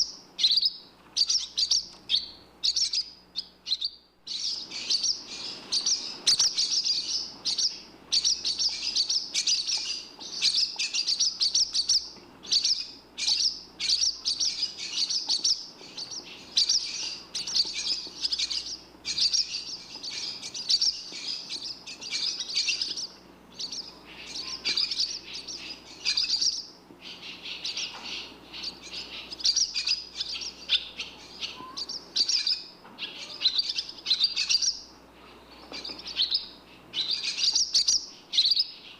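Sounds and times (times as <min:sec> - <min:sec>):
swallow twittering: 0:00.0 - 0:38.9.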